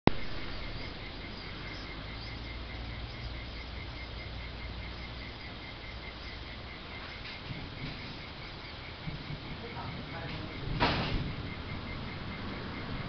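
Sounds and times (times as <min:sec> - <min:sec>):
cricket chirping: 0:00.1 - 0:13.0
low steady rumble: 0:00.1 - 0:13.0.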